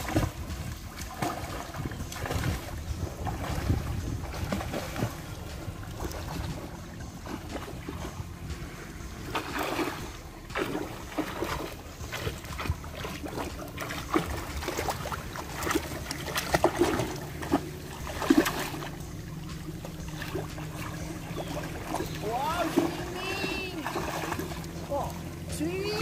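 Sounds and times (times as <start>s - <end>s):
low rumble: 0.0s - 26.0s
seawater splashing: 0.0s - 26.0s.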